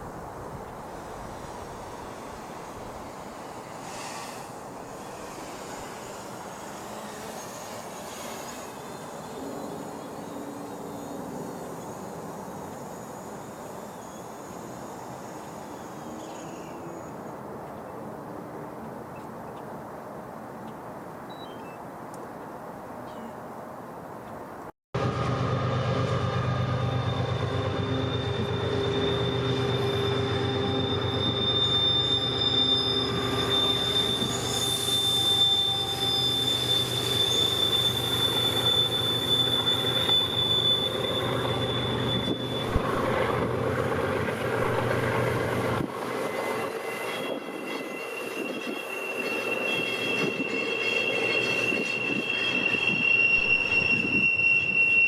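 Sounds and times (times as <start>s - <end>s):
low train rumble: 0.0s - 18.6s, 25.0s - 55.0s
train wheels squealing on rail: 0.8s - 17.5s, 25.0s - 55.0s.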